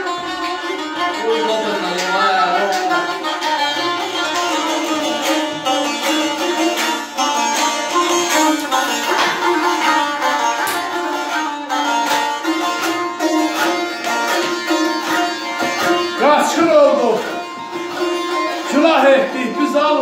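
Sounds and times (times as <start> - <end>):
plucked and strummed lute: 0.0 - 20.0.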